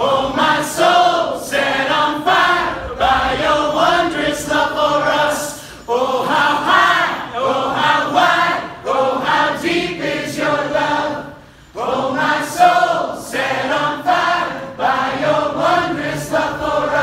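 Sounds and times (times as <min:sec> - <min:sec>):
church choir singing a hymn: 0:00.0 - 0:17.0.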